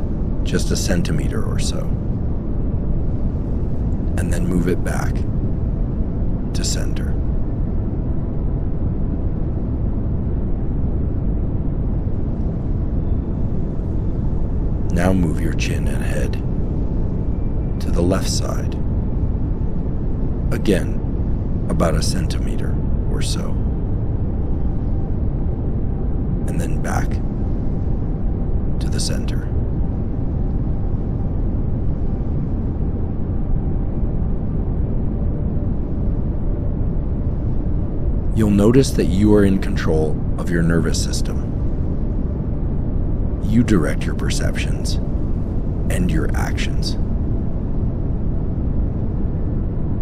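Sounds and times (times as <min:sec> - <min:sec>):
steady pink noise hiss: 0:00.0 - 0:50.0.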